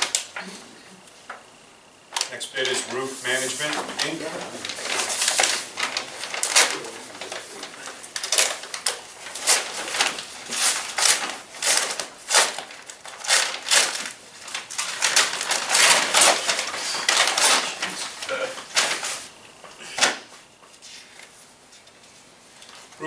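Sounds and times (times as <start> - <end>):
paper rustling and crinkling: 2.2 - 23.0.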